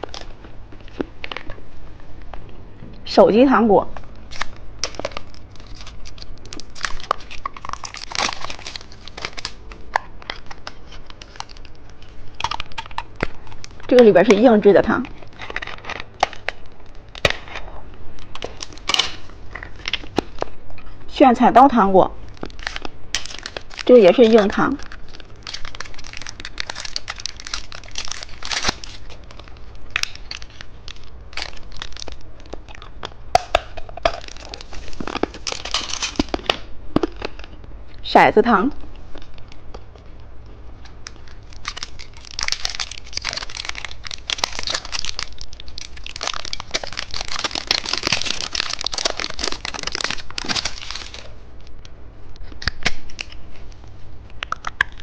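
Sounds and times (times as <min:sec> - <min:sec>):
plastic wrapping crackling: 0:00.0 - 0:02.4, 0:04.0 - 0:20.9, 0:22.2 - 0:37.6, 0:38.9 - 0:53.7.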